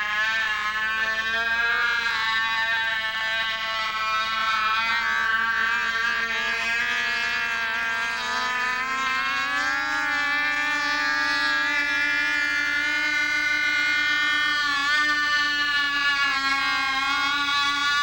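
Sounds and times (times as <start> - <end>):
model aircraft engine buzzing: 0.0 - 18.0.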